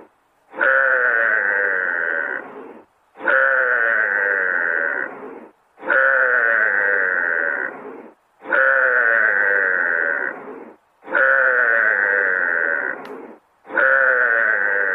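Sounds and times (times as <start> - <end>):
drawn-out animal call: 0.0 - 14.9.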